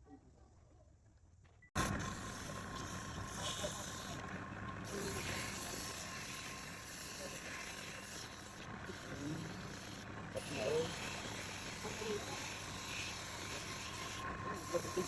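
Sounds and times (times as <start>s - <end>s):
machine humming: 1.8s - 15.0s.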